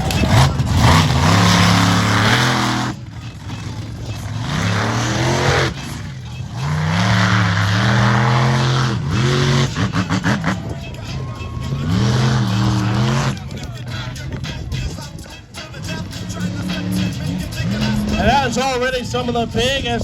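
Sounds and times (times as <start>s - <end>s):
truck engine revving hard: 0.0s - 18.8s.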